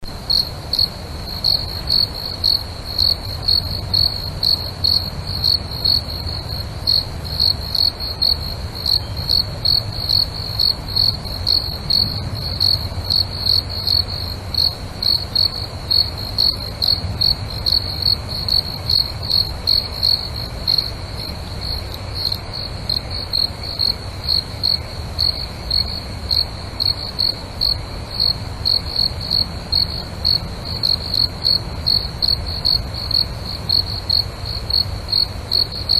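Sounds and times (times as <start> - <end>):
cricket chirping: 0.0 - 35.9.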